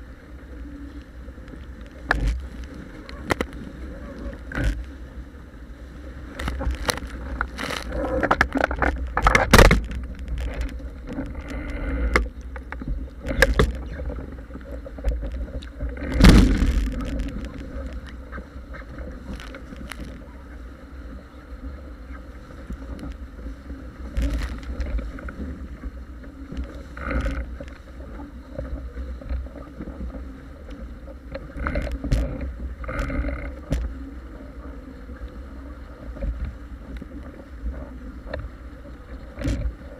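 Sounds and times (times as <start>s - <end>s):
water rushing past hull: 0.0s - 39.9s
waves splashing against hull: 0.0s - 39.9s
wind buffeting microphone: 0.0s - 39.9s.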